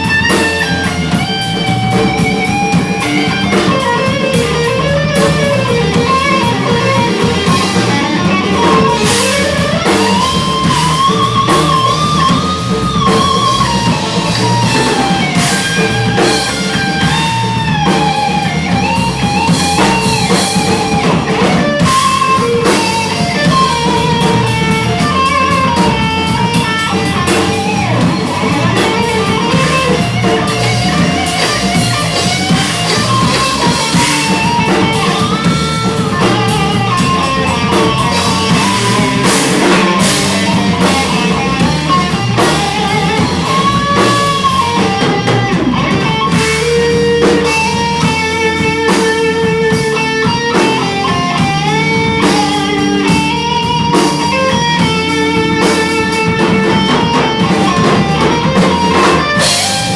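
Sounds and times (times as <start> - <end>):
bass: 0.0 - 59.9
drums: 0.0 - 59.9
electric guitar melody: 0.0 - 59.9.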